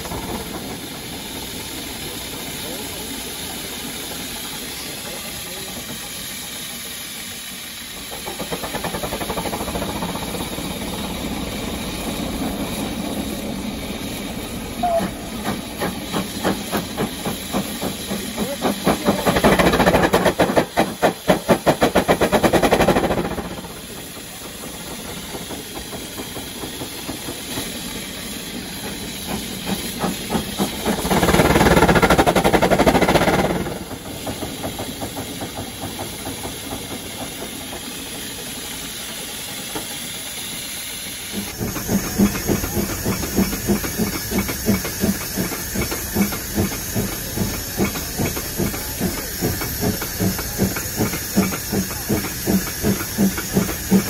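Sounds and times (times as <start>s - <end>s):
hissing steam: 0.0s - 54.0s
steam engine exhausting in beats: 0.0s - 54.0s
steam locomotive chuffing: 0.0s - 54.0s.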